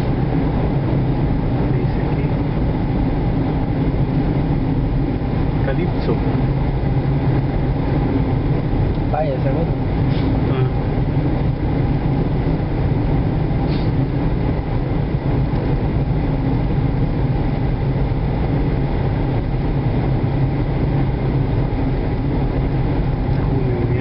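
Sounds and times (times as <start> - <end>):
car engine and tyre drone: 0.0 - 24.0.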